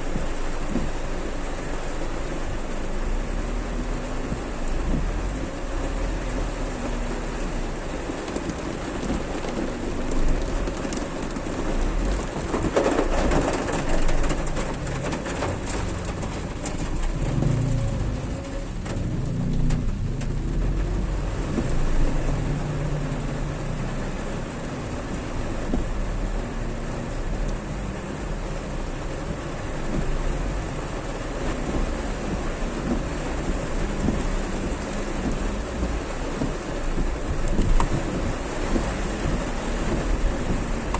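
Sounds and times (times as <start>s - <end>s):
heavy rain splashing: 0.0s - 40.9s
vehicle engines humming in traffic: 0.0s - 40.9s.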